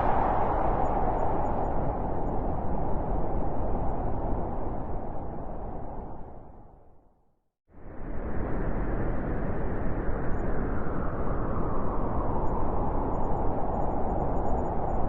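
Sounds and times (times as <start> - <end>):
strong wind blowing through forest: 0.0 - 6.7, 7.7 - 15.0.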